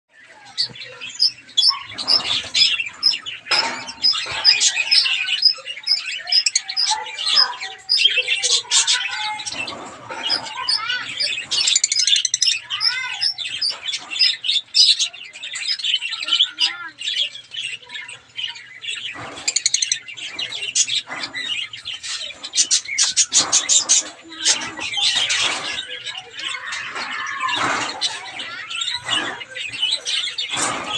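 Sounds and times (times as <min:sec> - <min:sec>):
birds twittering: 0:00.1 - 0:30.9
finches chirping: 0:00.1 - 0:30.9
loud rough noises: 0:00.4 - 0:16.8, 0:18.8 - 0:30.9.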